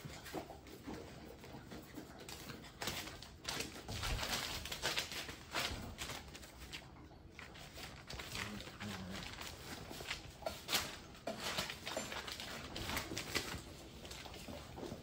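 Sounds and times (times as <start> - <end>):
puppy paws clicking on hard floor: 0.0 - 15.0.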